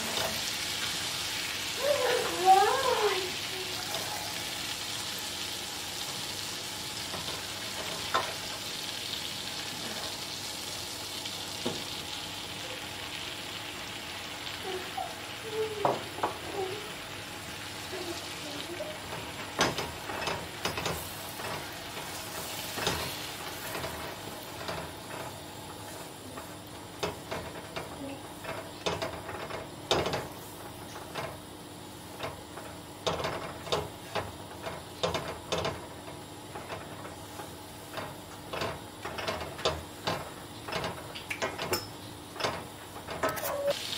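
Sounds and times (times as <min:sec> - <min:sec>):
liquid sizzling in a pot: 0:00.0 - 0:43.9.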